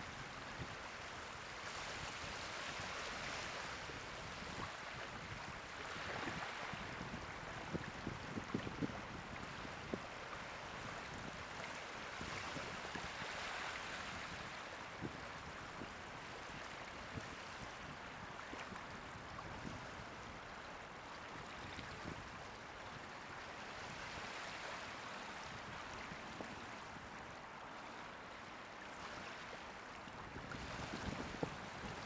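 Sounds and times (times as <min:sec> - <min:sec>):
small waves washing on shore: 0:00.0 - 0:32.0.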